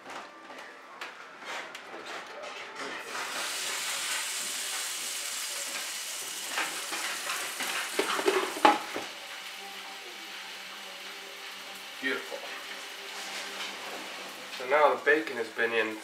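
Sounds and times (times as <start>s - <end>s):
chicken sizzling in a frying pan: 3.0s - 16.0s.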